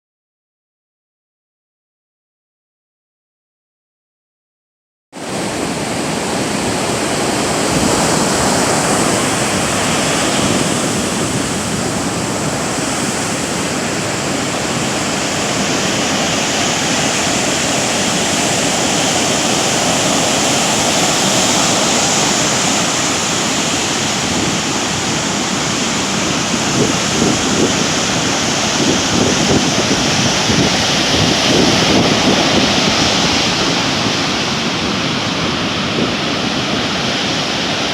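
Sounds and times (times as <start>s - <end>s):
heavy surf breaking: 5.2s - 37.9s
wind on microphone: 5.2s - 37.9s.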